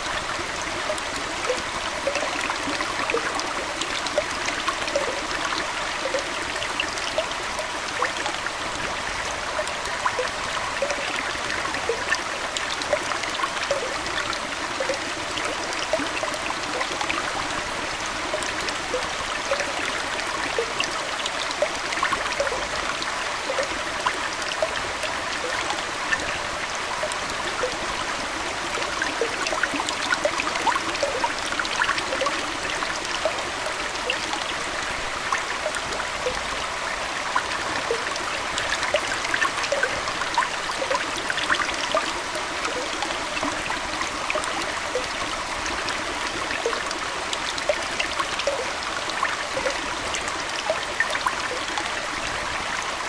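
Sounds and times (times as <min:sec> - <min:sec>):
small bubbling plinks: 0:00.0 - 0:52.8
aquarium water trickling: 0:00.0 - 0:53.0.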